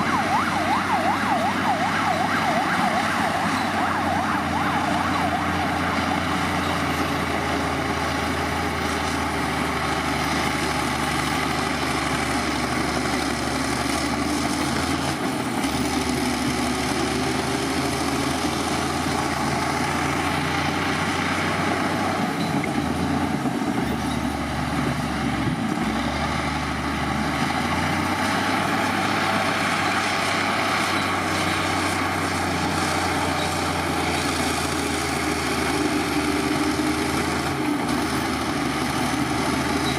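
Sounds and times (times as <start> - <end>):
diesel earthmoving machinery: 0.0 - 39.9.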